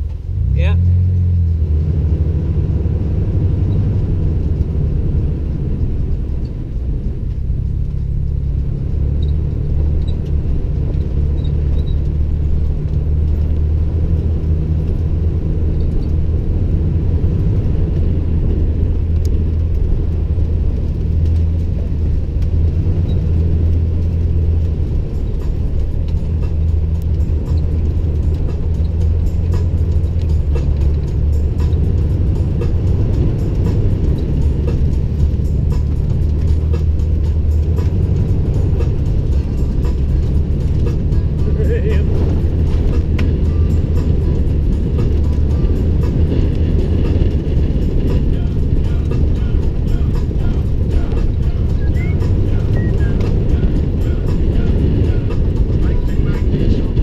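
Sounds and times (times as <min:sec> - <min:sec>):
pickup truck driving on gravel: 0:00.0 - 0:57.0.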